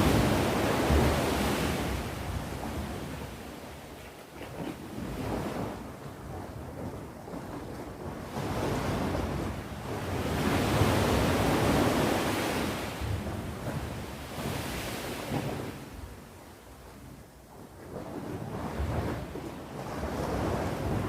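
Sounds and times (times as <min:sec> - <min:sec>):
sea waves breaking on shore: 0:00.0 - 0:21.0
wind on microphone: 0:00.0 - 0:21.0.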